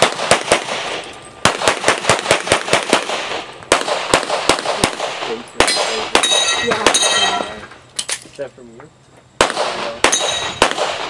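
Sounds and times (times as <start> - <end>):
rapid pistol shots: 0.0 - 7.3, 9.4 - 11.0.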